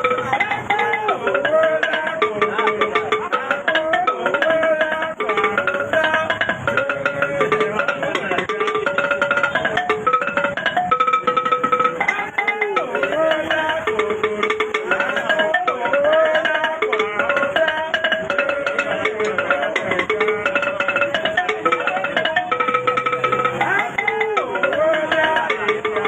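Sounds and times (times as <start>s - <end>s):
busy percussion rhythm: 0.0s - 26.0s
voices singing held notes: 0.0s - 26.0s.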